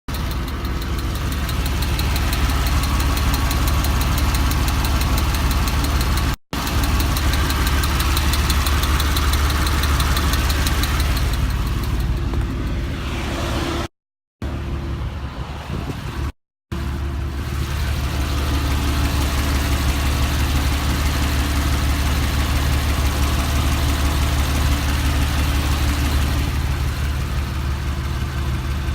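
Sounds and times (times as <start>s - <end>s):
fast even engine ticking: 0.1s - 13.4s, 16.8s - 28.9s
engine idling: 0.1s - 28.9s.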